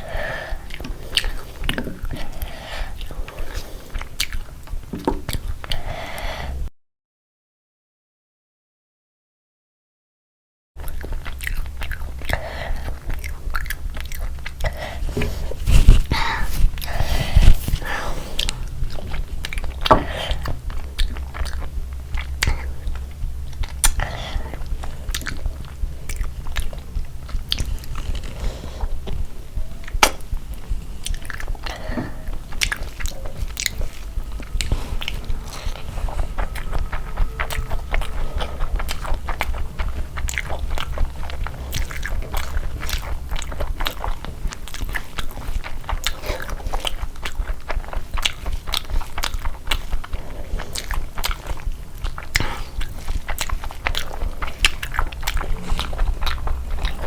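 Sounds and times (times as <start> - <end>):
person chewing and crunching: 0.0 - 6.0, 10.8 - 57.0
mouth smacks and clicks: 0.0 - 6.4, 10.8 - 57.0
low hum: 10.8 - 57.0.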